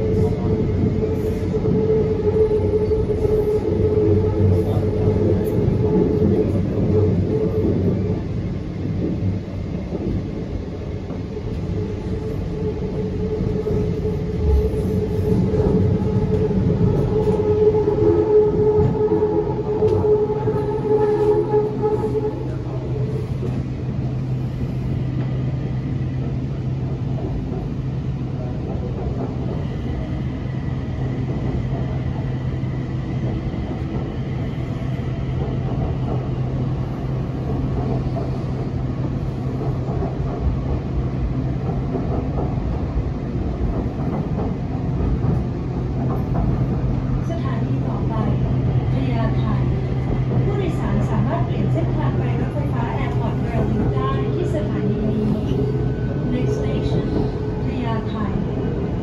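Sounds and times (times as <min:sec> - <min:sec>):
train car rumble with low hum: 0:00.0 - 0:59.0.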